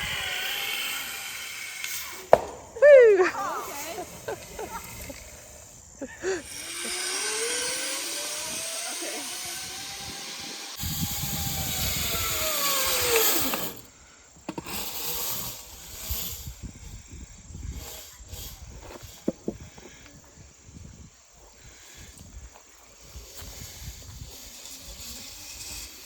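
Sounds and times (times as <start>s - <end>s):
zip line trolley whirring on cable: 0.0s - 19.8s, 21.6s - 26.0s.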